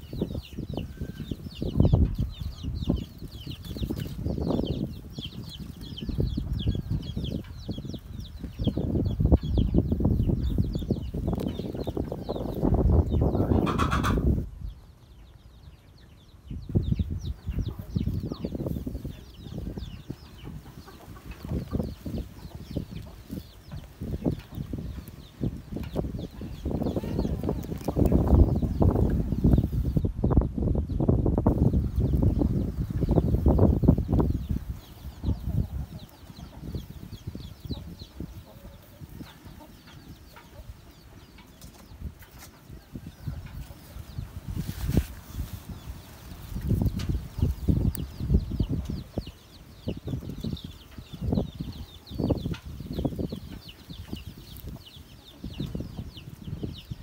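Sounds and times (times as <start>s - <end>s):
chickens clucking: 0.0s - 14.5s, 15.1s - 57.0s
chicks peeping: 0.0s - 57.0s
small birds chirping: 0.0s - 57.0s.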